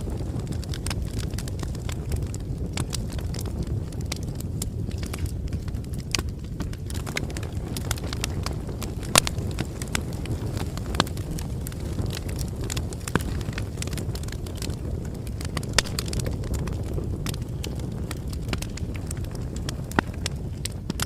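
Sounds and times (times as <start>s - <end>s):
bonfire crackling: 0.0s - 21.0s
wood popping and snapping: 0.6s - 21.0s.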